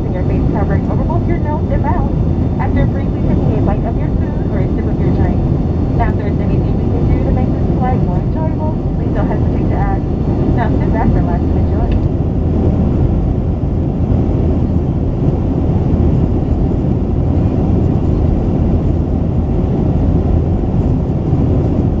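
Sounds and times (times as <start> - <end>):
airflow over fuselage: 0.0 - 22.0
airplane cabin engine rumble: 0.0 - 22.0.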